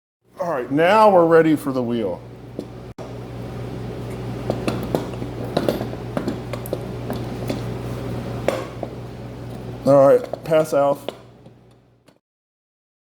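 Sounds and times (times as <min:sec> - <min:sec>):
steady low hum: 0:00.3 - 0:12.1.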